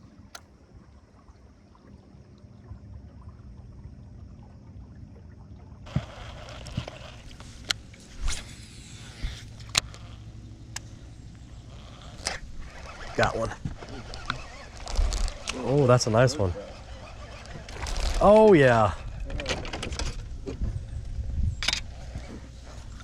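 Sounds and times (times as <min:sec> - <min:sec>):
faint steady hum: 0:00.0 - 0:19.2
water: 0:00.0 - 0:23.0.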